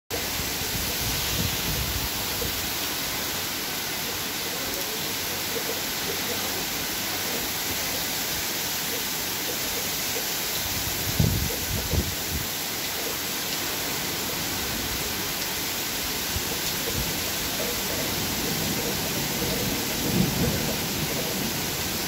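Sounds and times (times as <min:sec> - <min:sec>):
heavy rain pouring: 0:00.1 - 0:22.0.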